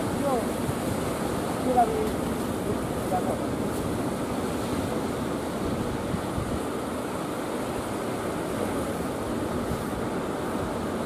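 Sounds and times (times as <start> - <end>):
sea surf breaking over rocks: 0.0 - 11.0.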